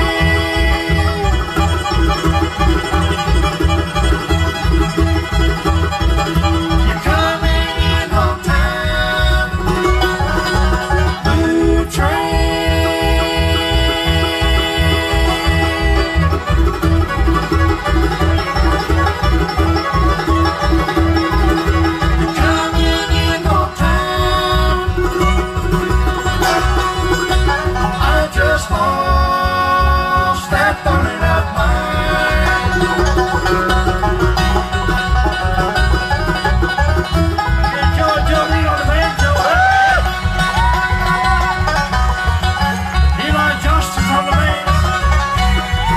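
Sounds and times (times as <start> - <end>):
acoustic guitars: 0.0 - 45.9
banjo rolls: 0.0 - 45.9
fiddle: 0.0 - 45.9.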